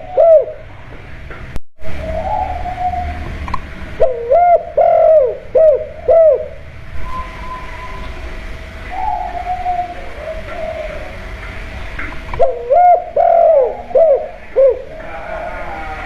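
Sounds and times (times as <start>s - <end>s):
dove cooing: 0.0s - 0.9s, 1.9s - 3.4s, 4.0s - 16.0s.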